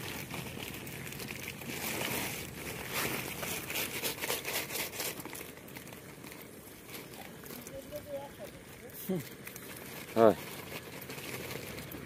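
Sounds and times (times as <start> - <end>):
plastic sack crinkling: 0.0 - 12.0
wet net mesh rustling: 0.0 - 12.0.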